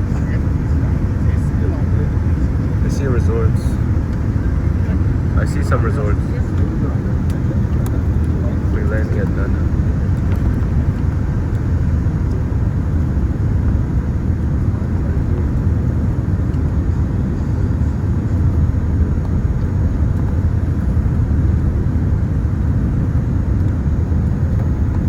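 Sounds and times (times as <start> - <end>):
airflow noise: 0.0 - 25.0
airliner cabin engine rumble: 0.0 - 25.0.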